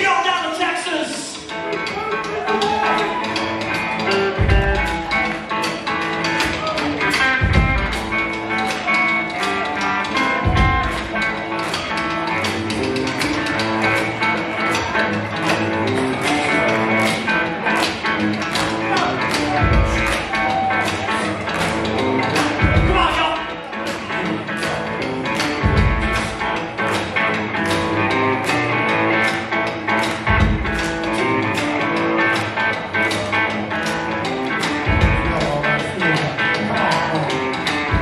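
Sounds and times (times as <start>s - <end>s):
electric guitar: 1.2s - 38.0s
bass guitar: 1.3s - 38.0s
steady drum beat: 1.4s - 38.0s.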